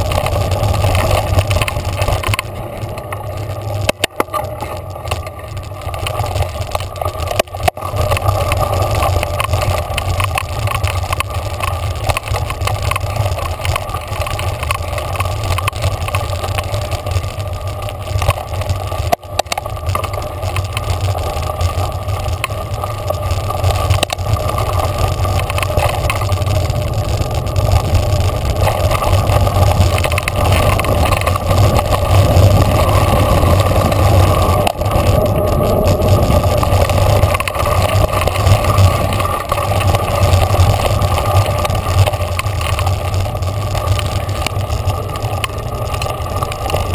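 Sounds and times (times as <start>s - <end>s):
bike tyres on dirt trail: 0.0s - 46.9s
wind rushing over camera: 0.0s - 46.9s.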